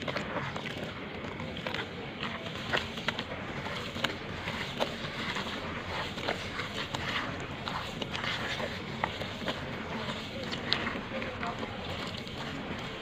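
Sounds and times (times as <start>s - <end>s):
gritty rustle: 0.1s - 13.0s.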